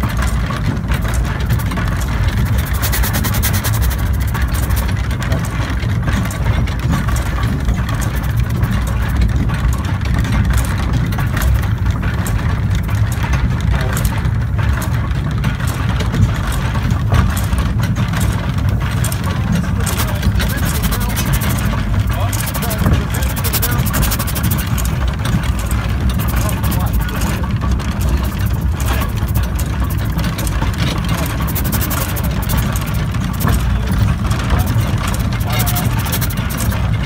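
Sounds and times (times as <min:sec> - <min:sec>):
steam locomotive clattering: 0:00.0 - 0:37.0.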